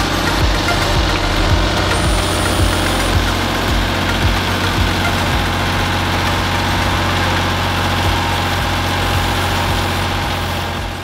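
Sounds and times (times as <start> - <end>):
backhoe digging: 0.0 - 11.0
machine engine running: 0.0 - 11.0.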